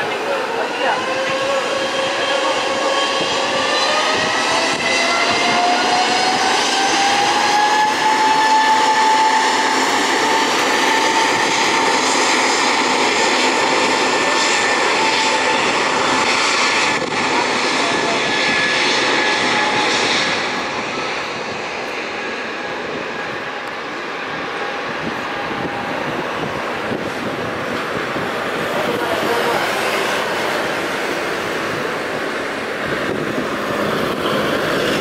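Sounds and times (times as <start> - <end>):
jet engine roar: 0.0 - 35.0
jet engine whine: 0.0 - 35.0.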